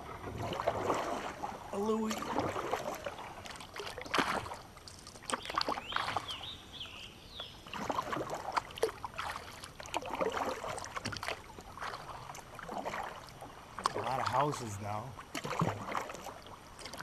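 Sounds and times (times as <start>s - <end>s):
kayak paddle splashing in water: 0.0s - 6.6s, 7.6s - 17.0s.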